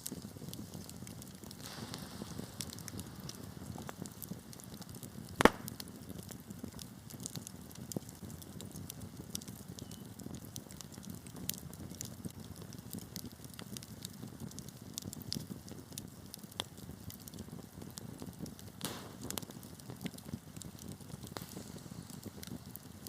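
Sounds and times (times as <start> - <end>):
logs crackling and popping: 0.0 - 23.0
wood fire burning: 0.0 - 23.0.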